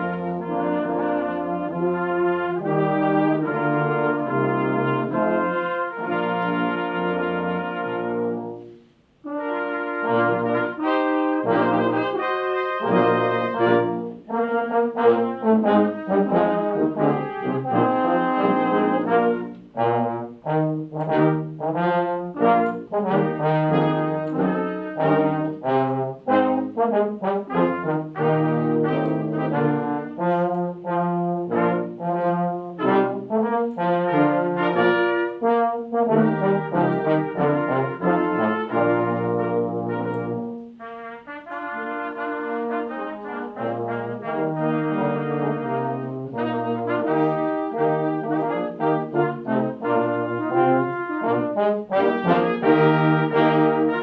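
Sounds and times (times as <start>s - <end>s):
brass ensemble playing: 0.0s - 54.0s.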